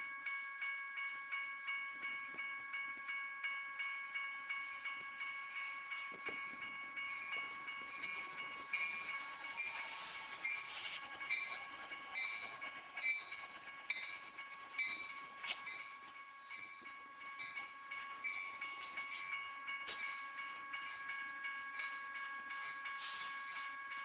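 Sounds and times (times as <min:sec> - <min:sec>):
crossing bell dinging: 0:00.0 - 0:24.0
steady high tones: 0:00.0 - 0:24.0
train passing on rails: 0:00.0 - 0:24.0.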